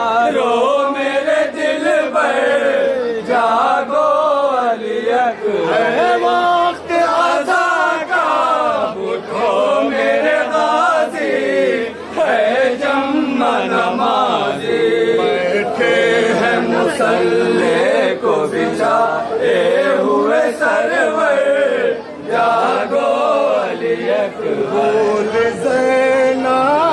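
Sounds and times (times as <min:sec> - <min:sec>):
men chanting a lament: 0:00.0 - 0:26.9.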